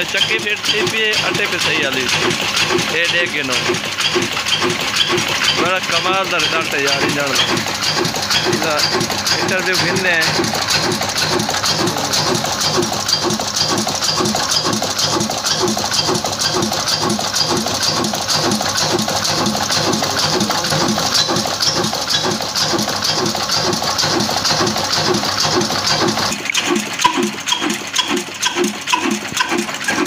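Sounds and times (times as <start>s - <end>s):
mechanical clatter of belt drive: 0.0s - 30.0s
oil engine running: 0.0s - 30.0s.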